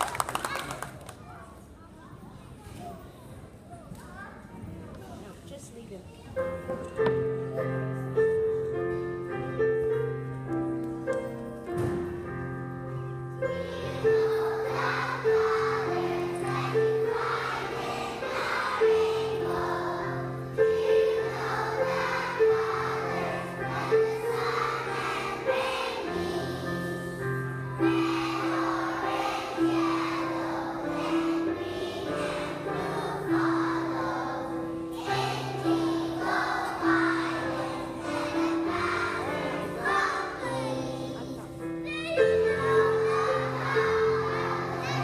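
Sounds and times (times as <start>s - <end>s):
children's choir singing: 6.4s - 45.0s.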